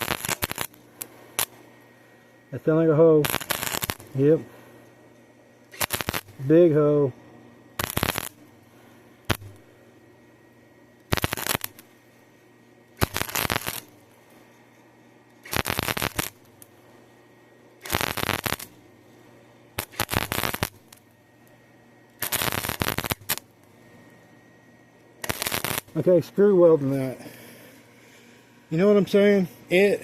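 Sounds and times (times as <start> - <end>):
arc welder crackling: 0.0 - 30.0.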